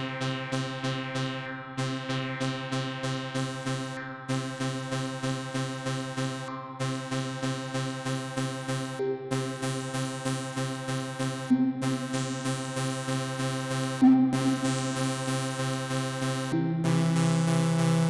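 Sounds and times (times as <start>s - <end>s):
pulsing synthesizer chord: 0.0s - 18.0s.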